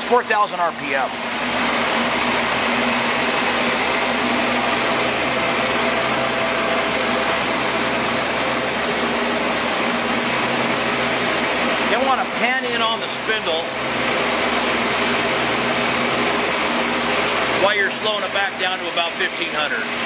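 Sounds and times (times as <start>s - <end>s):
lathe whirring: 0.0s - 20.0s.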